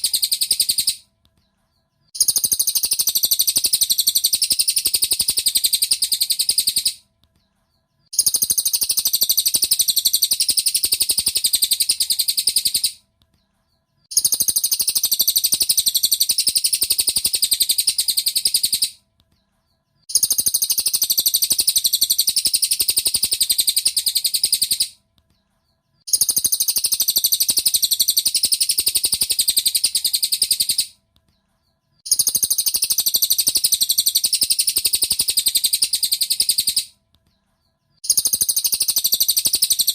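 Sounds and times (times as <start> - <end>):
bird twittering high-pitched: 0.0 - 1.1, 1.7 - 7.1, 8.0 - 13.0, 14.0 - 19.0, 19.7 - 25.0, 25.6 - 31.0, 31.6 - 37.0, 37.9 - 39.9.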